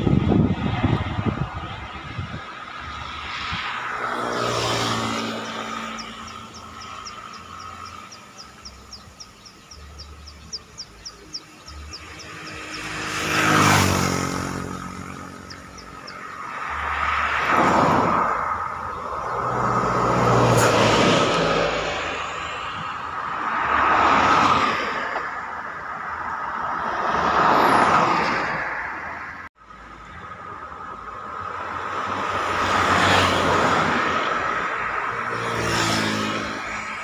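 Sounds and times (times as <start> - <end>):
vehicles passing by: 0.0 - 37.0.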